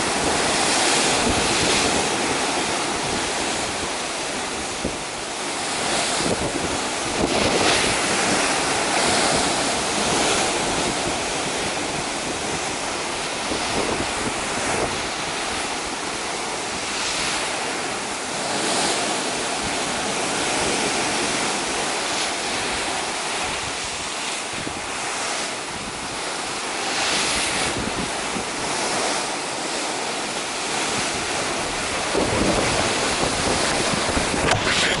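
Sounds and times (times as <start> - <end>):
rough sea breaking water: 0.0 - 35.0
wind buffeting microphone: 0.0 - 35.0.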